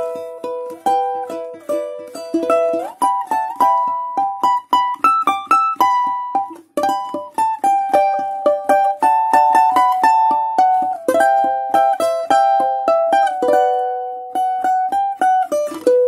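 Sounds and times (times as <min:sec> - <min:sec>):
balalaika plucked melody: 0:00.0 - 0:16.0.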